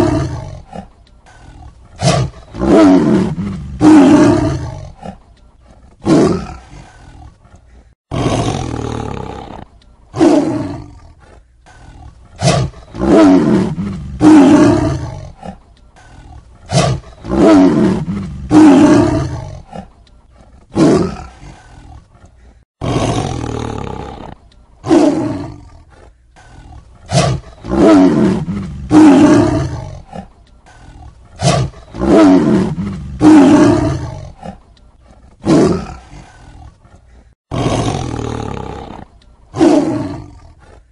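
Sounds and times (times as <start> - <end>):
tiger roaring and growling: 0.0 - 40.9.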